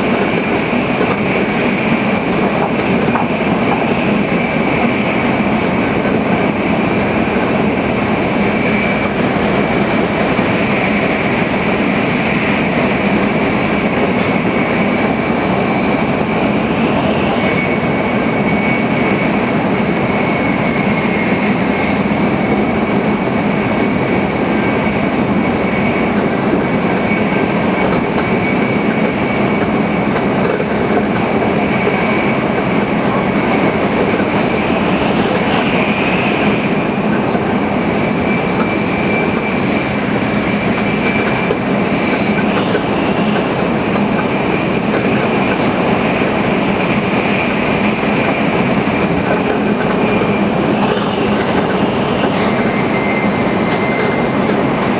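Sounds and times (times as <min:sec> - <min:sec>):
high-speed train rushing: 0:00.0 - 0:54.9.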